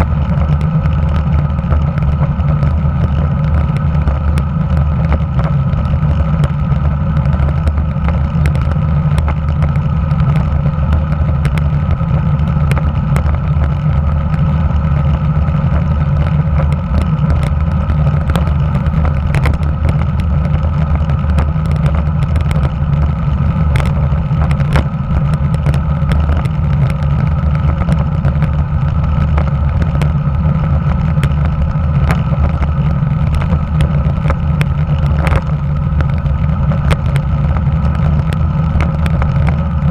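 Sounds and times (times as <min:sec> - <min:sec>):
faint clicks from road bumps: 0:00.0 - 0:39.9
road vibration rumble: 0:00.0 - 0:39.9
wind noise: 0:00.0 - 0:39.9.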